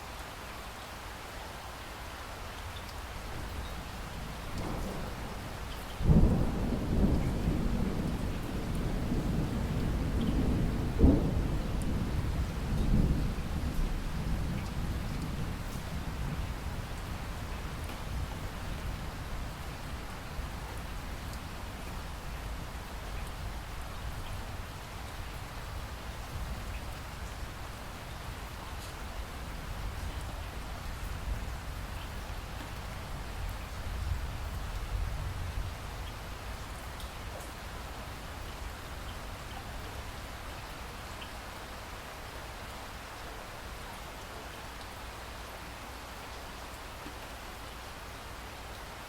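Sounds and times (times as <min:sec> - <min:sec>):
steady rain hissing: 0:00.0 - 0:49.0.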